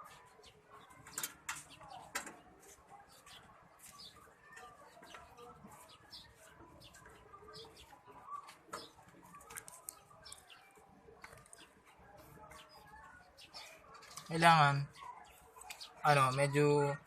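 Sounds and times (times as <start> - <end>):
birdsong: 0.0 - 17.0
chickens clucking: 0.0 - 17.0.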